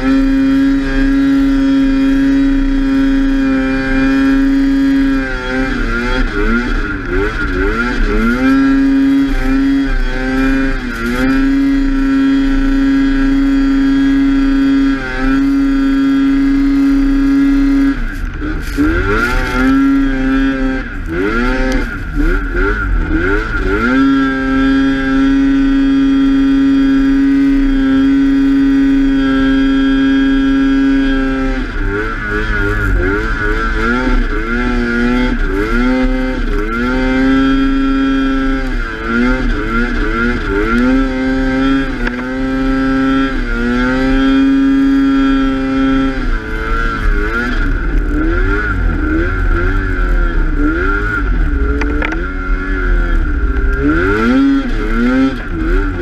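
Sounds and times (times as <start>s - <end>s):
snowmobile engine running hard: 0.0s - 56.0s.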